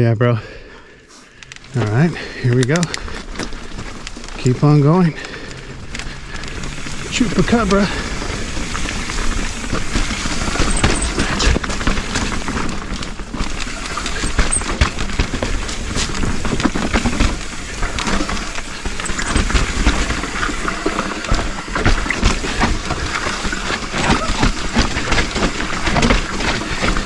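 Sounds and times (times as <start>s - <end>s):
mountain bike rattle: 1.4s - 27.0s
bike knocking over bumps: 1.9s - 27.0s.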